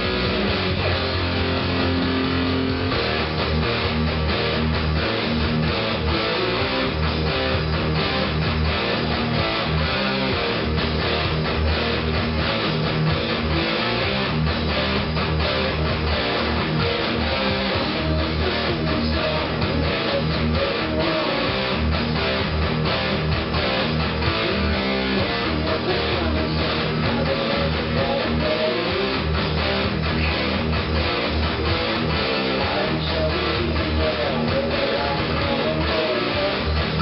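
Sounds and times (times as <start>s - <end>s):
electric guitar heavy metal riff: 0.0s - 37.0s.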